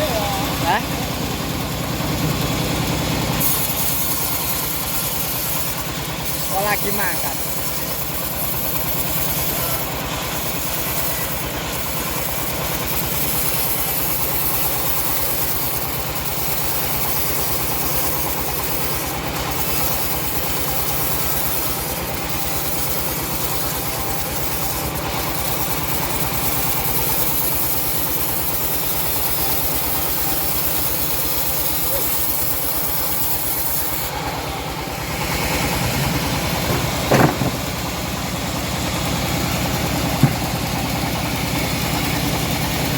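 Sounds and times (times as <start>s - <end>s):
bandsaw blade sawing log: 0.0s - 42.9s
loud clatter: 1.3s - 42.9s.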